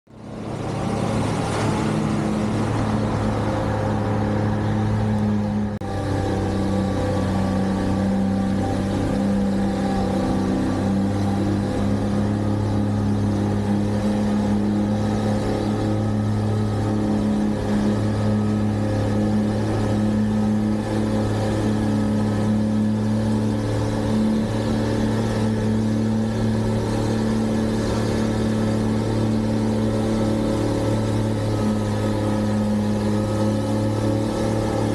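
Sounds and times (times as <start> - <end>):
vehicle engine deep hum: 0.0 - 34.9.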